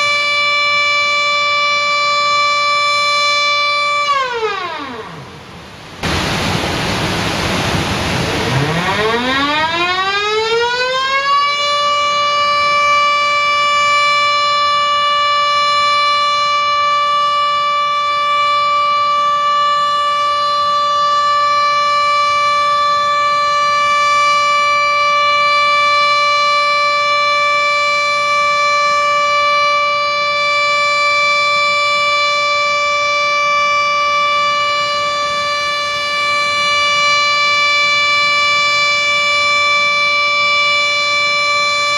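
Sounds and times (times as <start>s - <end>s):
warning siren wailing: 0.0s - 5.8s, 8.1s - 41.9s.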